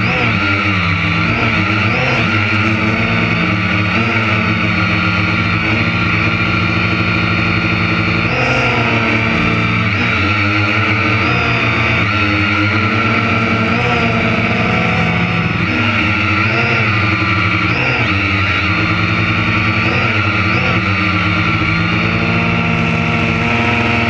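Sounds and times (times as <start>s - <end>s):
high whine: 0.0s - 24.0s
machinery engine running loudly: 0.0s - 24.0s.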